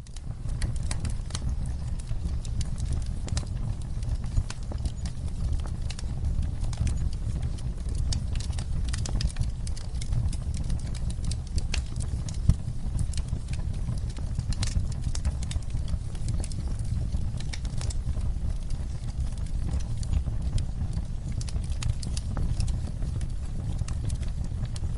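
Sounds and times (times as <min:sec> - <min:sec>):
flames rumbling: 0:00.0 - 0:24.9
wood fire crackling and popping: 0:00.0 - 0:24.9.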